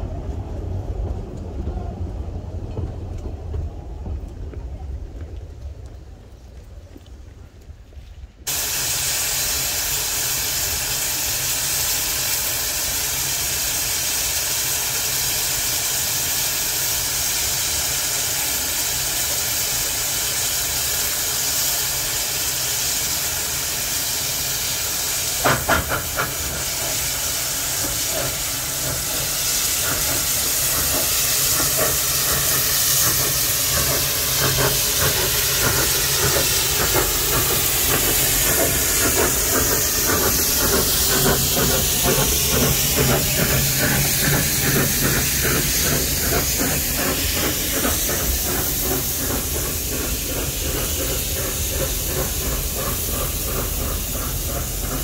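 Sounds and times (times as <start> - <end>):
steam locomotive hissing: 8.5 - 55.0.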